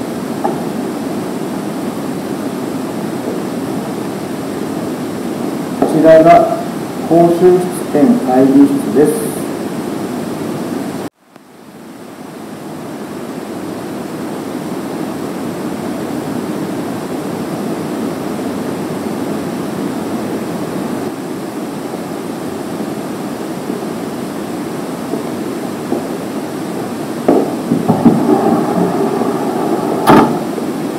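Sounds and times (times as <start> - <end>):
room tone hiss: 0.0 - 30.9.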